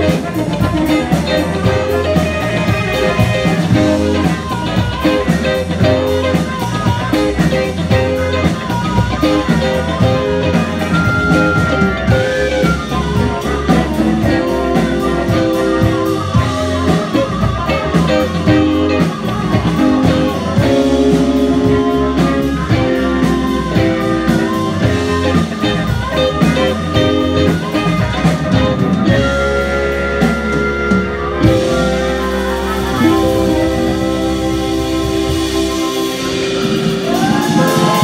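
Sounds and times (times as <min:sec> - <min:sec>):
drum kit steady beat: 0:00.0 - 0:38.0
electric guitars: 0:00.0 - 0:38.0.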